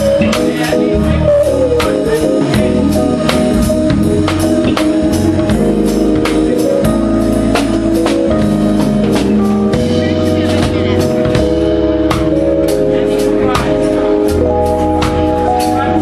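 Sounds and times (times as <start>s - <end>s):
drum kit beat: 0.0s - 16.0s
keyboard notes: 0.0s - 16.0s.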